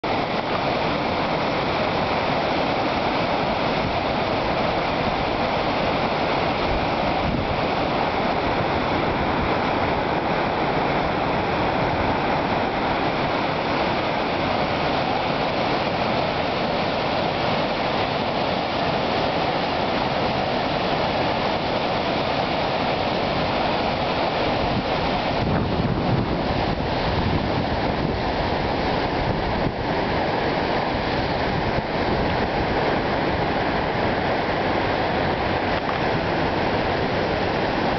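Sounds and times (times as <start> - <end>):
river rushing over waterfall: 0.0 - 37.9.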